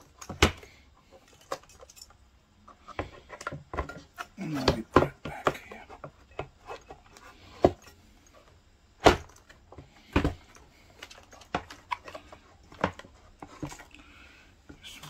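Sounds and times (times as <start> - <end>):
plastic parts clicking and knocking: 0.0 - 14.0.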